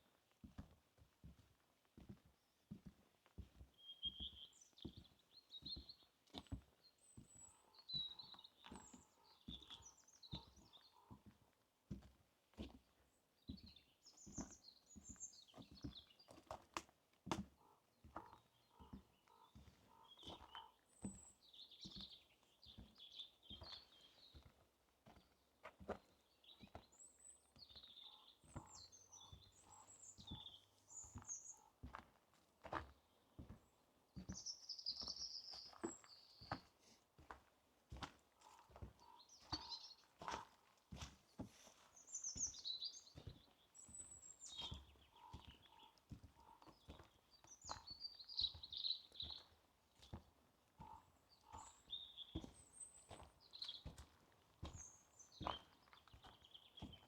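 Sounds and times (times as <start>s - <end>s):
footsteps on forest path: 0.0s - 57.0s
songbirds chirping and trilling: 0.0s - 57.0s.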